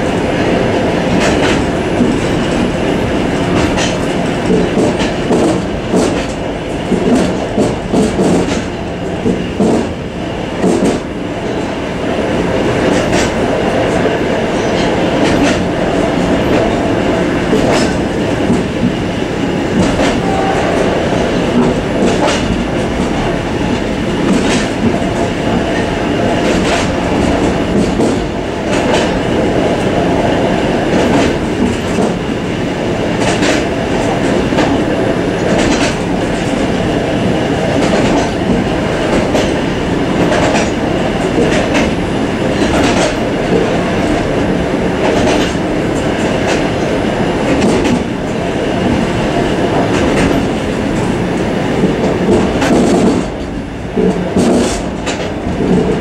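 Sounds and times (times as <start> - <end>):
wheels clacking over rail joints: 0.0 - 10.0, 12.8 - 32.3, 33.1 - 56.0
train wheels rumbling: 0.0 - 56.0.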